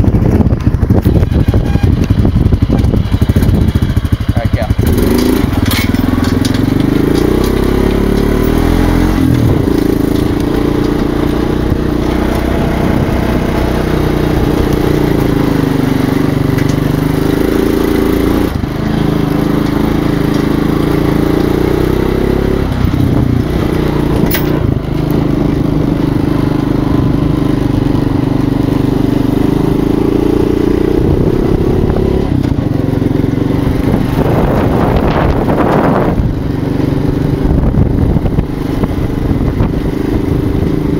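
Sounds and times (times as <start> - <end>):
small vehicle engine running: 0.0 - 40.9.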